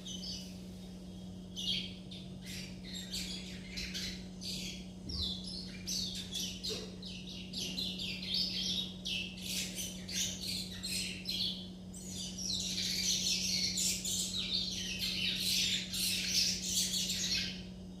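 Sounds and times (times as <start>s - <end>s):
young birds twittering: 0.0s - 18.0s.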